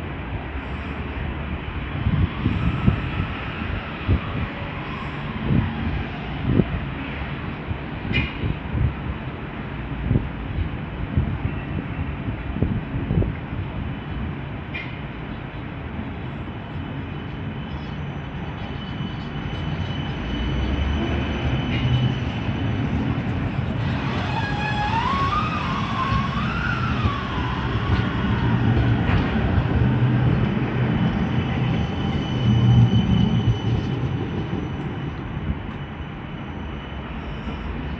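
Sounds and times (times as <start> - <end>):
tram wheels rumbling on rail: 0.0 - 37.9.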